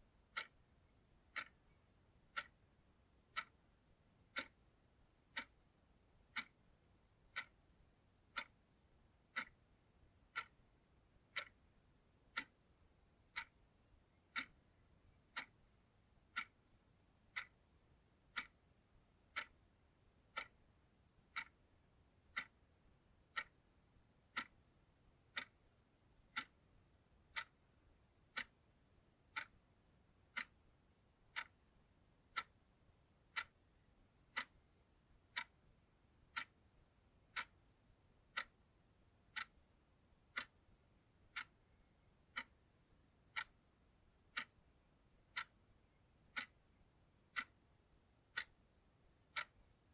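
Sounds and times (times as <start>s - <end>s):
clock ticking: 0.0s - 49.9s.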